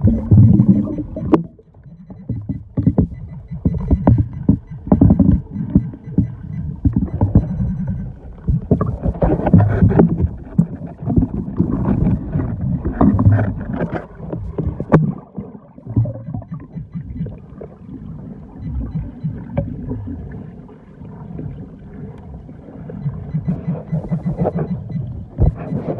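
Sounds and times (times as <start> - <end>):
water sloshing and churning: 0.0 - 25.9.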